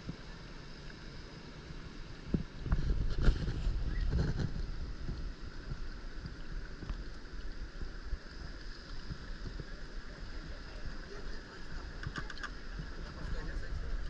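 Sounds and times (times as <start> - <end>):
water lapping against raft: 1.5 - 14.0
wind on microphone: 2.2 - 14.0.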